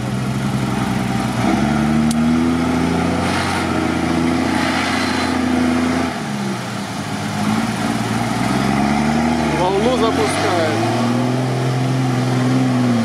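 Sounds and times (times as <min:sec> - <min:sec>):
truck engine revving: 0:00.0 - 0:13.0
mud and water churning: 0:01.1 - 0:13.0.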